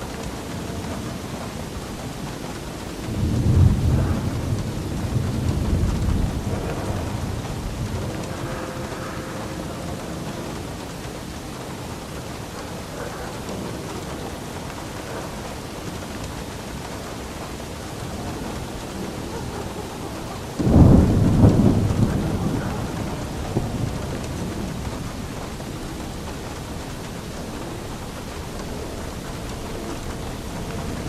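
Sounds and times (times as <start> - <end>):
steady rain: 0.0 - 31.0
thunder clap and rumble: 0.0 - 31.0.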